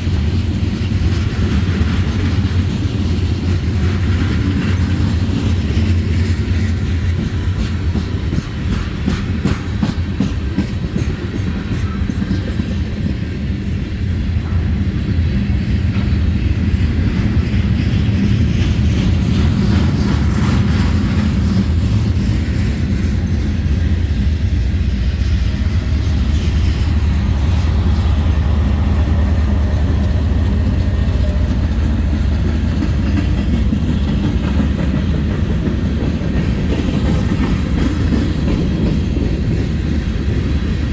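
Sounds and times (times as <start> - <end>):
wheels clicking over rail joints: 0.0 - 13.4, 15.8 - 40.9
freight train rumbling past: 0.0 - 40.9.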